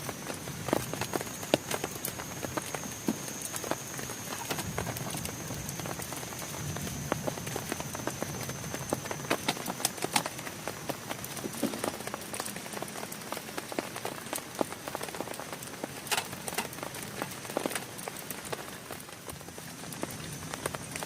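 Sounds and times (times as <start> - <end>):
heavy rain on a tent: 0.0 - 21.0.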